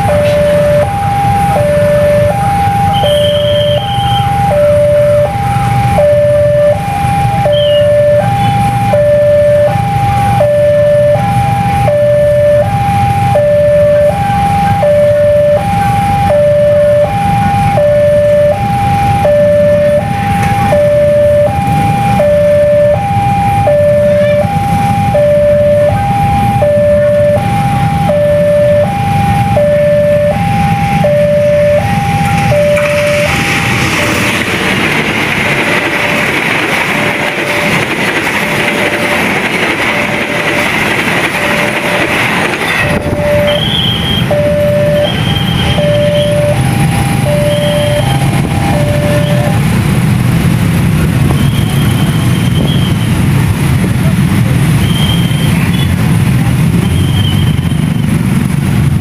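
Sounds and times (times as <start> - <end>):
level crossing two-tone alarm: 0.0 - 35.9, 38.9 - 50.6
train wheels on rails: 0.0 - 59.0.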